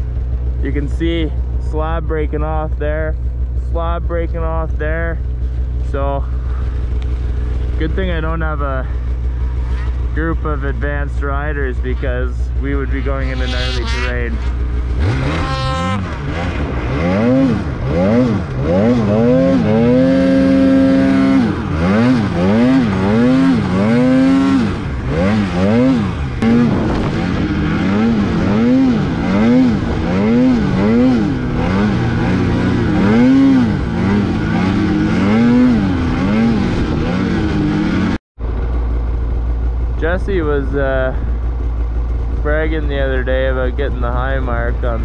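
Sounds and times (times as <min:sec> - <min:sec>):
snowmobile engine revving: 0:00.0 - 0:38.2, 0:39.8 - 0:45.0.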